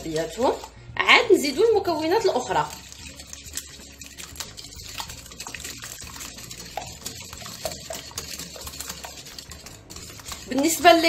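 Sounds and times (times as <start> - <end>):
egg mixture sloshing: 0.0 - 11.0.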